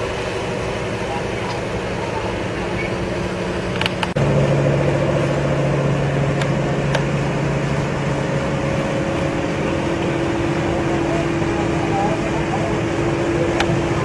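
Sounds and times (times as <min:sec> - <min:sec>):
boat diesel engine drone: 0:00.0 - 0:14.0.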